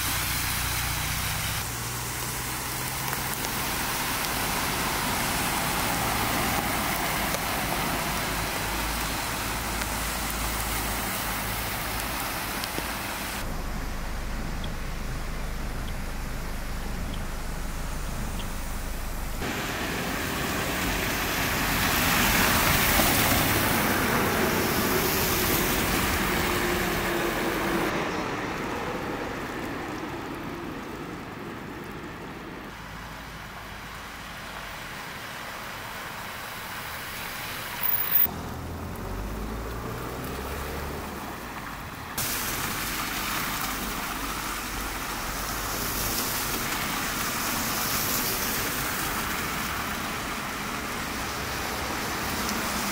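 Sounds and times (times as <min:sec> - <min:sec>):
car engines running: 0:00.0 - 0:34.8, 0:37.6 - 0:52.9
tyres splashing through water: 0:00.0 - 0:52.9
water running along street: 0:00.0 - 0:52.9.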